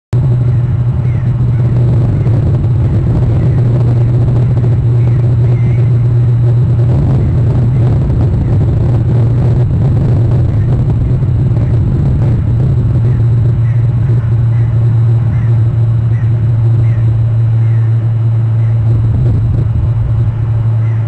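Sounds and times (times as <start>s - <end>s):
loud low hum: 0.1s - 21.0s.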